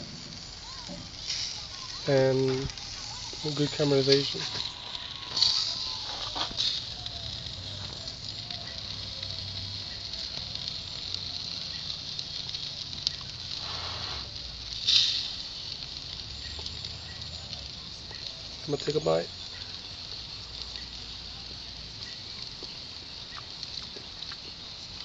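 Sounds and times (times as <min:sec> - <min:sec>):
burgers sizzling on a grill: 0:00.0 - 0:25.0.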